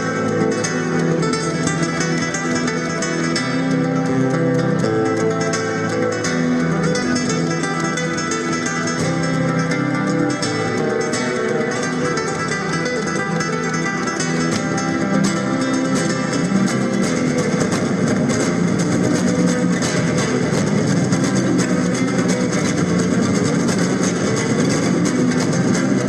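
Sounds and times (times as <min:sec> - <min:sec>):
flamenco acoustic guitar: 0:00.0 - 0:26.0.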